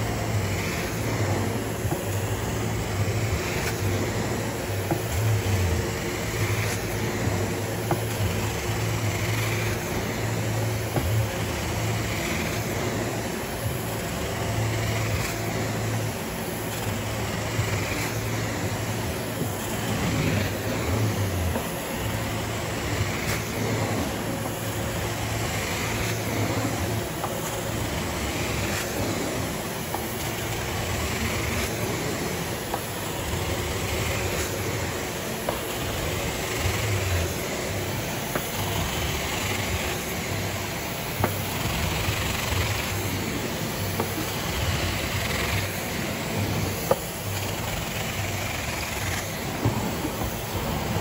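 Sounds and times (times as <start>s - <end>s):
carpet extractor suction and spray: 0.0s - 51.0s
low machine hum: 0.0s - 51.0s.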